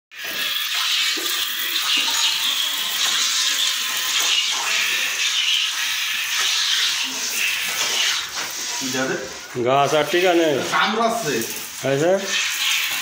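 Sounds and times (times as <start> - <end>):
milk squirting into a pail: 0.2 - 13.0.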